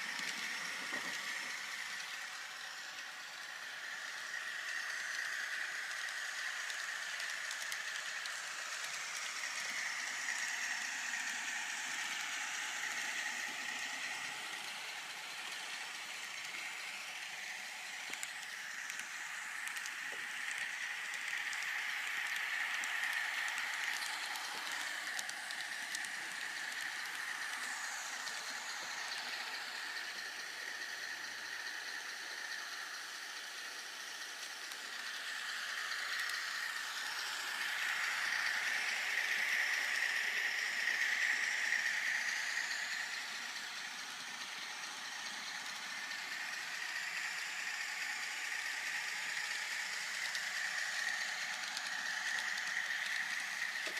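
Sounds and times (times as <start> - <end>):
rattling model train engine sound: 0.0 - 53.9.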